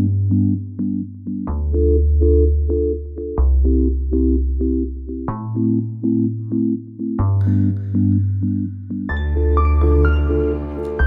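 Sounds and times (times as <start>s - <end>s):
synthesizer chords: 0.0s - 11.0s.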